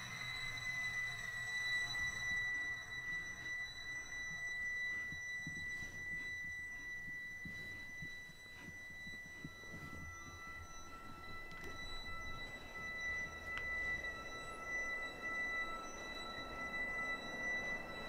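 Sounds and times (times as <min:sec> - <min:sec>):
high-pitched electronic whine: 0:00.0 - 0:18.0.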